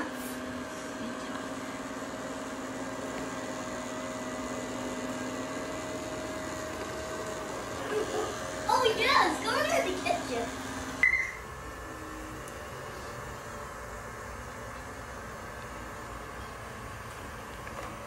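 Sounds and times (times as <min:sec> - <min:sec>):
robot vacuum motor humming: 0:00.0 - 0:18.0.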